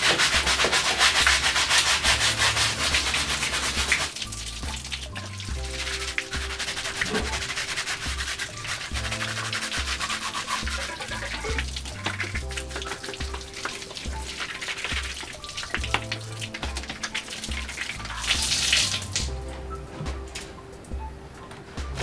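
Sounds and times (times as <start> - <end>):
toothbrush scrubbing plastic: 0.0 - 19.3
tap water running: 0.0 - 19.4
background music with steady beat: 0.0 - 22.0.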